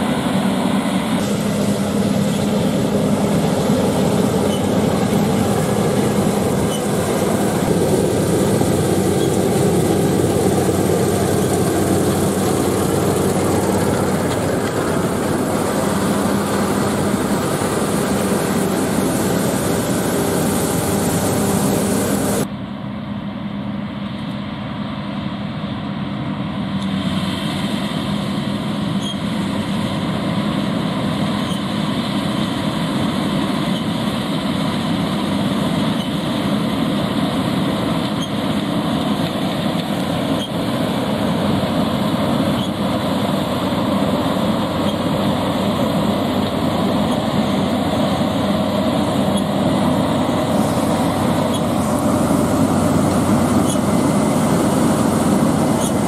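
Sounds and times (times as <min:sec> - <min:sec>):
combine harvester engine and threshing: 0:00.0 - 0:56.0.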